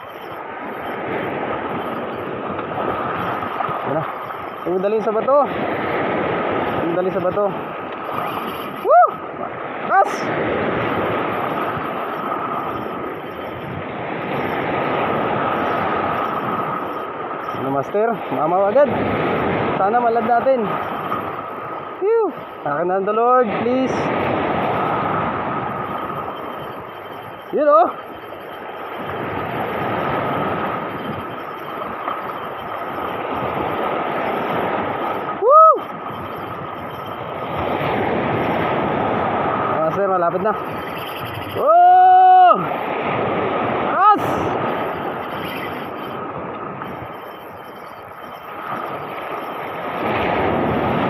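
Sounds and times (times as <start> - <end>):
surf washing over rocks: 0.0 - 51.0
wind on microphone: 0.0 - 51.0.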